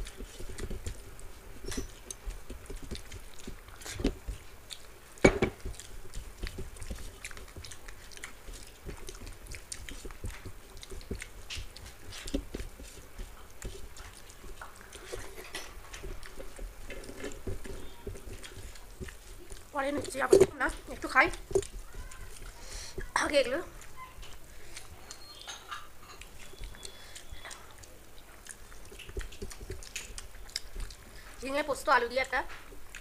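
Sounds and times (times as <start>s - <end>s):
fingers mixing rice on steel plates: 0.0s - 33.0s
people chewing: 0.0s - 33.0s.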